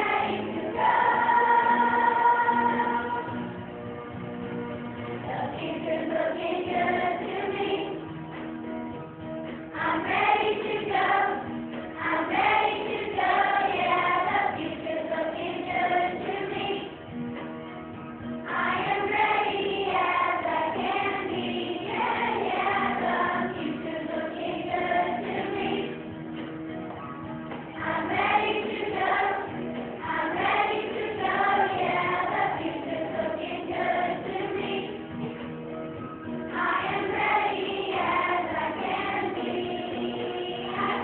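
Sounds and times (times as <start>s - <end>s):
children's choir singing: 0.0s - 3.6s, 5.2s - 8.1s, 9.7s - 17.1s, 18.4s - 26.1s, 27.7s - 35.2s, 36.5s - 41.0s.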